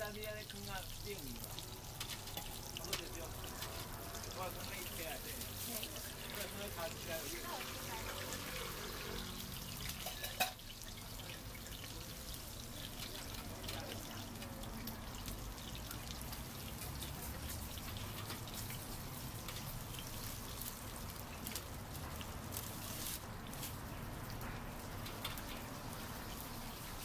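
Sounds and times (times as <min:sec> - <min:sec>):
oil sizzling and crackling: 0:00.0 - 0:27.0.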